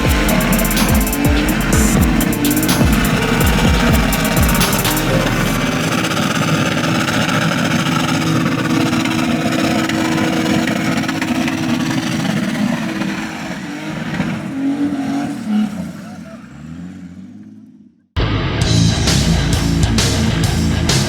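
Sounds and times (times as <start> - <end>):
car engine running hard: 0.0 - 17.8.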